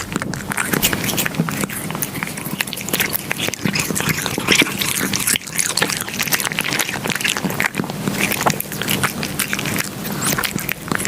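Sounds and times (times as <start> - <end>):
cat chewing and licking: 0.0 - 11.0.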